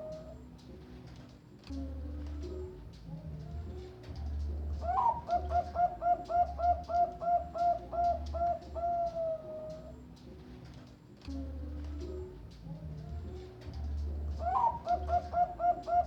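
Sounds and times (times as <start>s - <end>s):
dove cooing: 0.0s - 0.5s, 1.8s - 10.5s, 11.3s - 16.0s.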